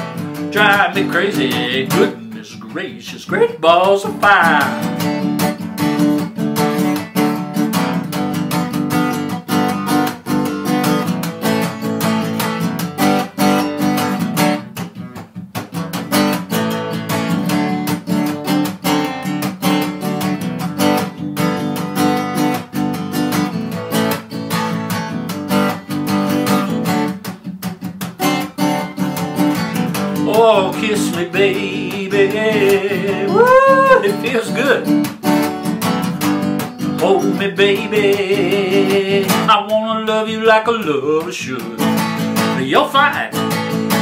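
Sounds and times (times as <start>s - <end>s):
acoustic guitar strummed: 0.0s - 44.0s.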